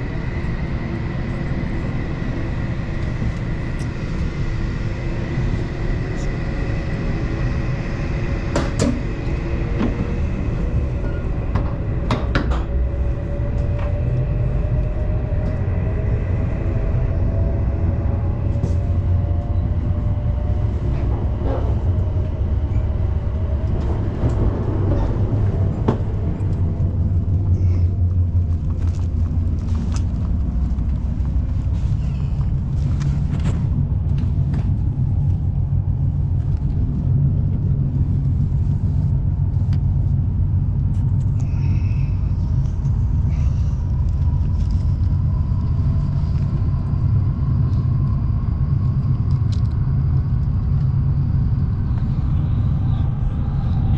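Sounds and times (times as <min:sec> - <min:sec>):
train rumble from on board: 0:00.0 - 0:53.9.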